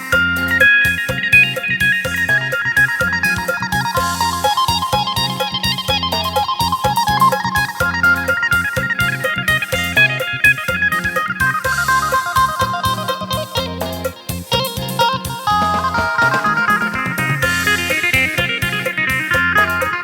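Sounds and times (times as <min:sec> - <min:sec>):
pulsing low bass: 0:00.0 - 0:16.1
electric plucked lute melody: 0:00.0 - 0:20.0.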